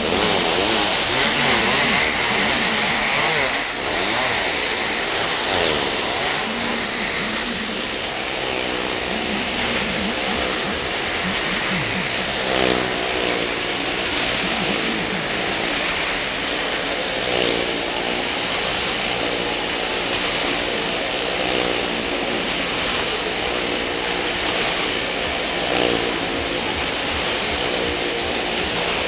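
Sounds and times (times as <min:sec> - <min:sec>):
vehicle engines revving: 0:00.0 - 0:29.0.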